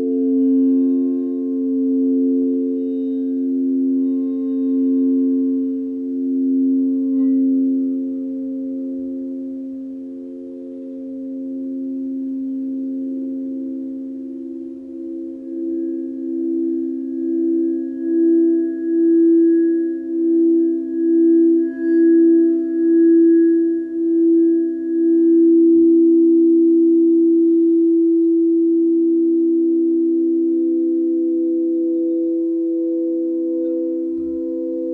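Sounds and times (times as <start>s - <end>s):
singing bowl ringing: 0.0s - 34.9s
steady pure tones: 0.0s - 34.9s.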